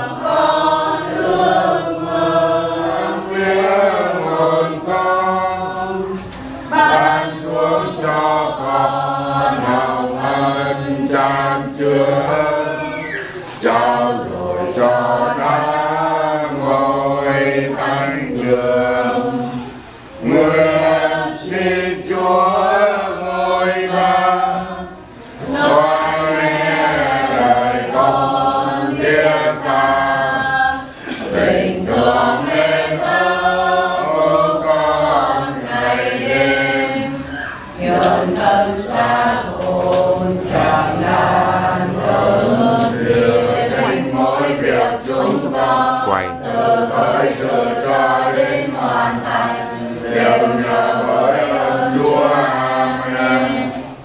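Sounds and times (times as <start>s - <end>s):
group singing a hymn unaccompanied: 0.0s - 54.0s.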